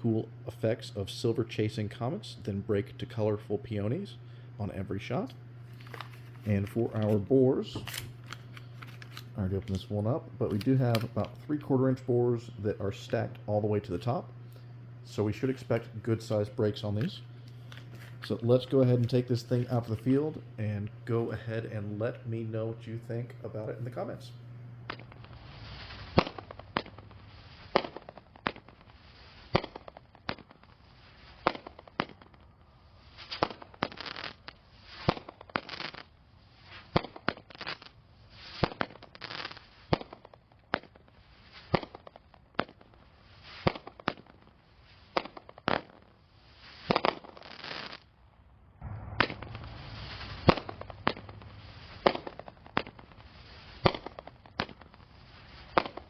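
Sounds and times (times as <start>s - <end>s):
firework cake firing reports: 9.2s - 14.3s, 15.0s - 48.1s, 48.8s - 56.0s.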